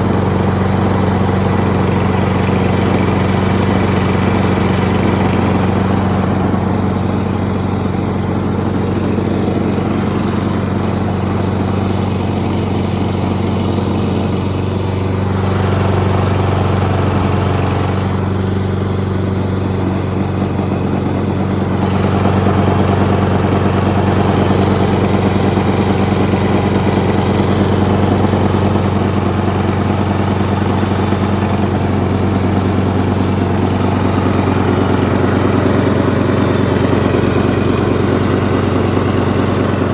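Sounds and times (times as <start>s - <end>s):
lawn mower engine running: 0.0s - 39.9s
mower deck wobbling: 0.0s - 39.9s.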